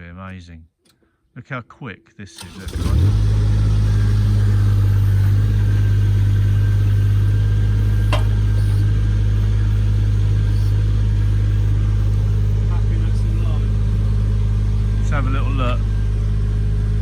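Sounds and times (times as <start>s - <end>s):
auger engine running: 2.4s - 17.0s.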